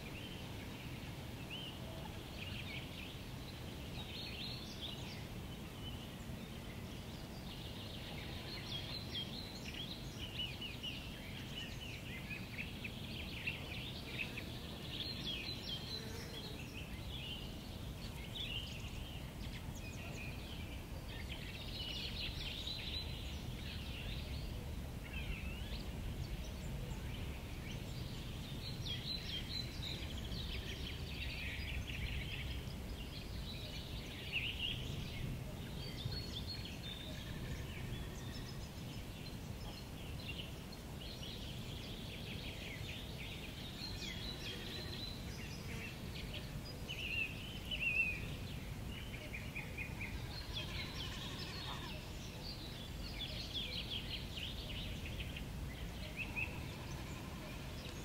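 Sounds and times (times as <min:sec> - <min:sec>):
low rumble of wind: 0:00.0 - 0:58.0
small birds singing and chirping: 0:00.0 - 0:58.0.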